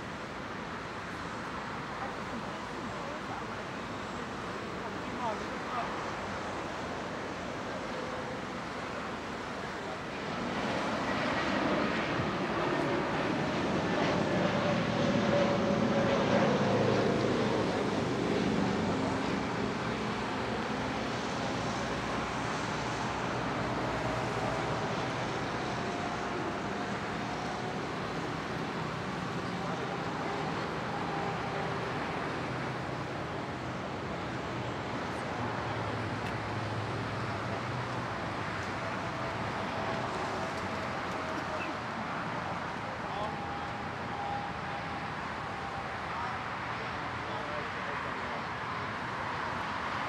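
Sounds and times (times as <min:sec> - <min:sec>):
tow tractor engine drone: 0:00.0 - 0:50.0.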